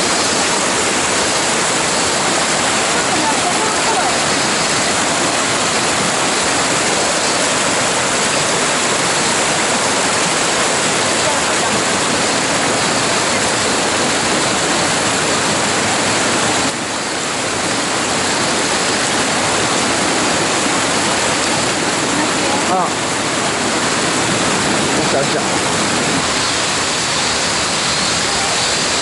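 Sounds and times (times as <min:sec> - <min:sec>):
water rushing over rocks: 0:00.0 - 0:29.0.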